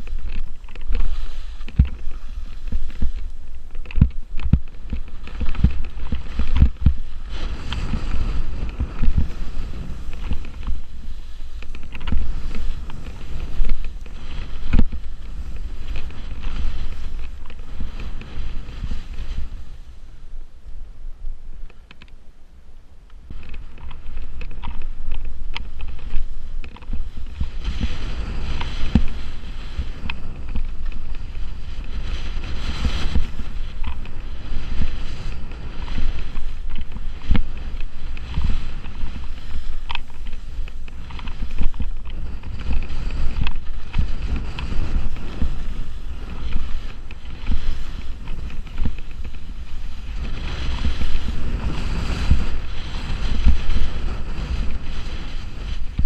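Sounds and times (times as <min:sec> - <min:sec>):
skis scraping through slushy snow: 0:00.0 - 0:20.4, 0:23.4 - 0:56.0
wind rumbling on microphone: 0:00.0 - 0:56.0.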